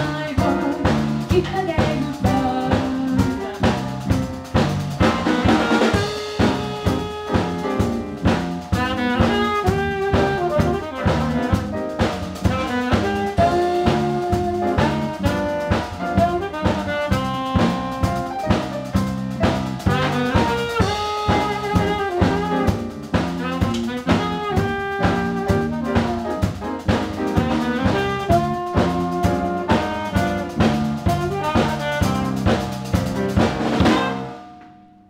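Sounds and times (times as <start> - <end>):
saxophone: 0.0 - 4.4, 5.0 - 34.4
bass: 0.0 - 35.0
drum kit: 0.0 - 35.0
piano: 0.0 - 35.0.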